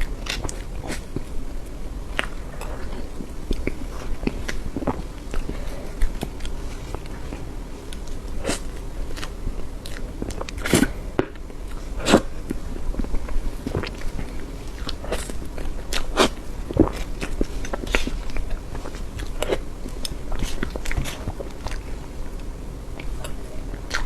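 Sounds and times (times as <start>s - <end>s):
chewing with mouth smacks: 0.0s - 24.0s.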